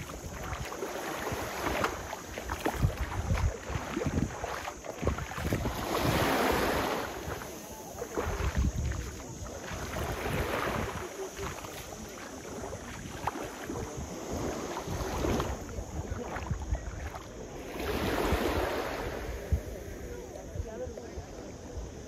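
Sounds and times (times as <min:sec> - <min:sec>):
seawater splashing: 0:00.0 - 0:19.9
wind rumbling on microphone: 0:00.0 - 0:22.0.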